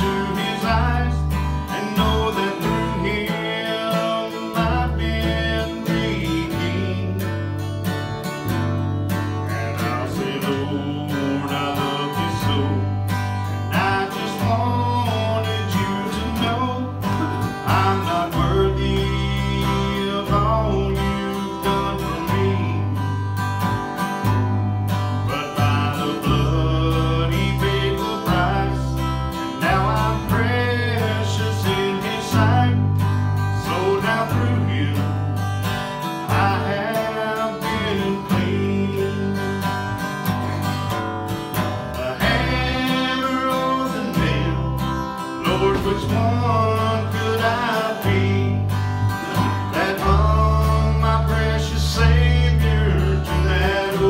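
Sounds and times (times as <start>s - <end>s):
acoustic guitar strumming: 0.0s - 54.0s
electric bass line: 0.0s - 54.0s.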